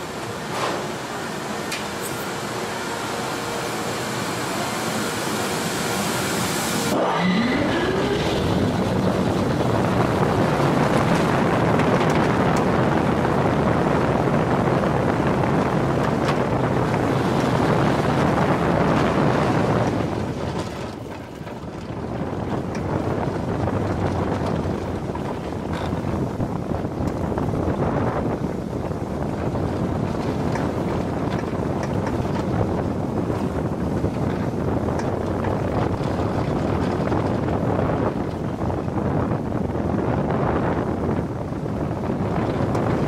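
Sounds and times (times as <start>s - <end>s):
roller coaster rising whine: 0.0s - 38.7s
wind rush over microphone: 3.3s - 43.0s.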